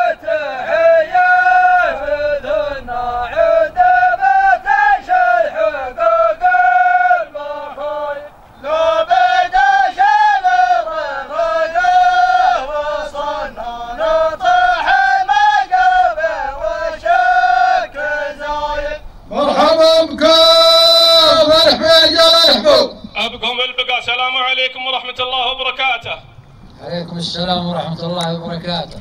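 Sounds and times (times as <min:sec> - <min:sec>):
man chanting a sung poem: 0:00.0 - 0:24.5.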